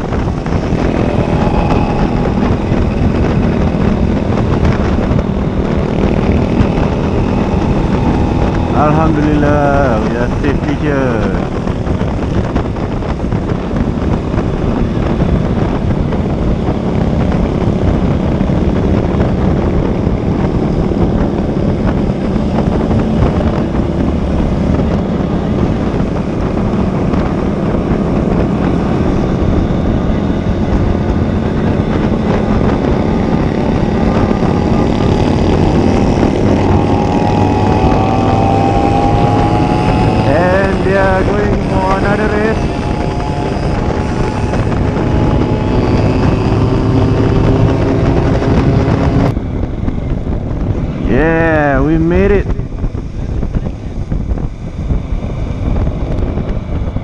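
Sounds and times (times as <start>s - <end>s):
motorcycle engine drone: 0.0s - 57.0s
wind noise on microphone: 0.0s - 57.0s.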